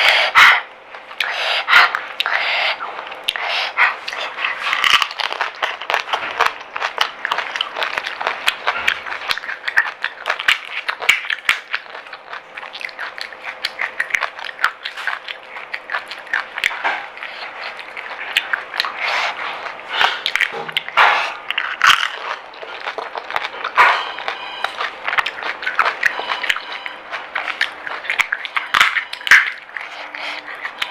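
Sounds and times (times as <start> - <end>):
crisp shells crunching chewed: 0.0 - 30.9.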